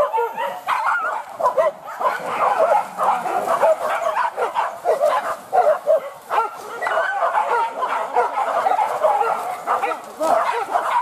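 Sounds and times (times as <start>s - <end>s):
hunting dogs yelping and baying: 0.0s - 11.0s.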